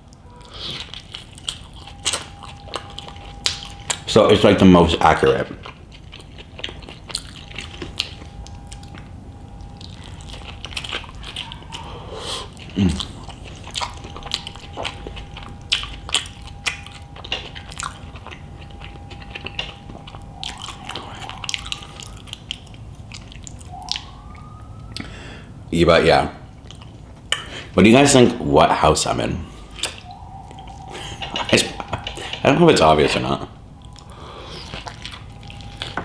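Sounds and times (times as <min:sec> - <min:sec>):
person chewing food: 0:00.0 - 0:04.5, 0:05.1 - 0:25.6, 0:26.5 - 0:27.8, 0:29.4 - 0:32.6, 0:33.2 - 0:36.0
faint high tone hum: 0:00.0 - 0:36.0.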